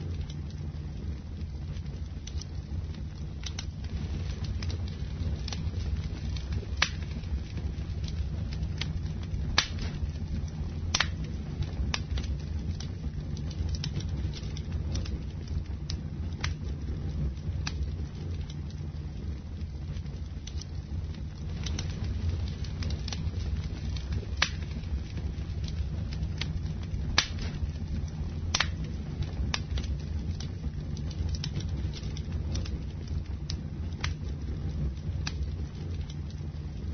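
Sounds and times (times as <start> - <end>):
low rumble of flames: 0.0 - 36.9
wood crackling and popping: 0.0 - 36.9.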